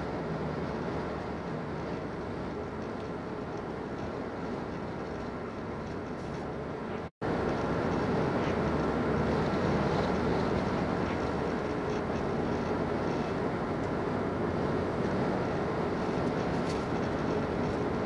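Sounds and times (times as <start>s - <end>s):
car cabin road noise: 0.0s - 18.0s.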